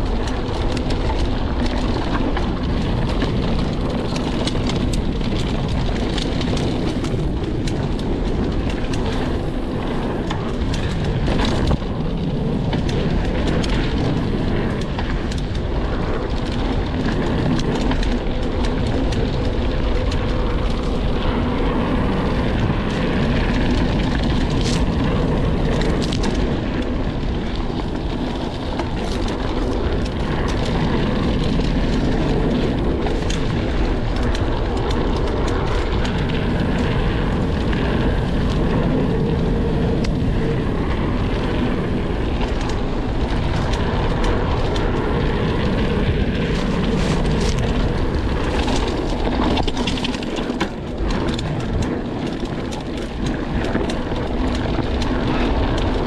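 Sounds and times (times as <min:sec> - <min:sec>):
bike and chain rattling: 0:00.0 - 0:56.0
tyres rumbling over dirt: 0:00.0 - 0:56.0
wind rushing over microphone: 0:00.0 - 0:56.0.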